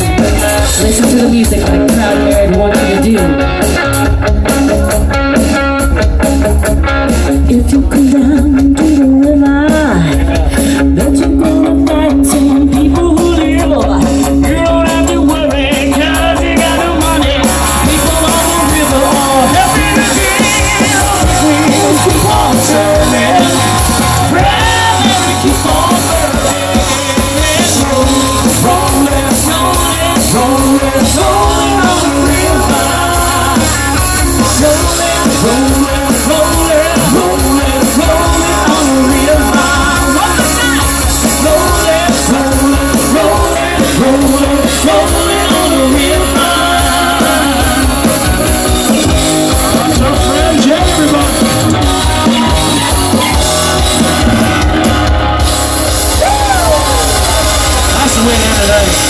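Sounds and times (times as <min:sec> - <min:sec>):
bass line: 0:00.0 - 0:59.0
lead singer: 0:00.0 - 0:59.0
live rock band playing: 0:00.0 - 0:59.0.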